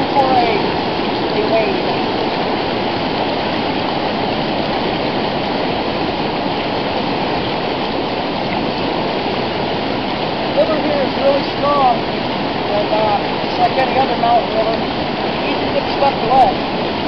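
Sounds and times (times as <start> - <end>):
river rushing through rapids: 0.0 - 17.0.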